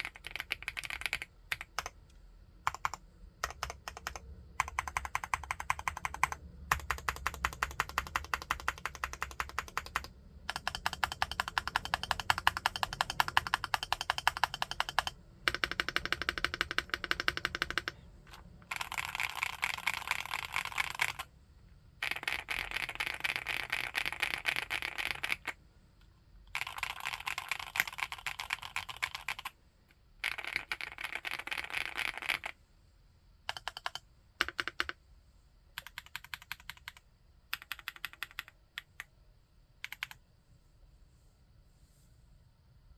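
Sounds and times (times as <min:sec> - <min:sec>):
fast typing on mechanical keyboard: 0:00.0 - 0:02.0, 0:02.7 - 0:21.3, 0:22.0 - 0:25.6, 0:26.5 - 0:29.5, 0:30.2 - 0:32.6, 0:33.5 - 0:35.0, 0:35.8 - 0:39.1, 0:39.8 - 0:40.2.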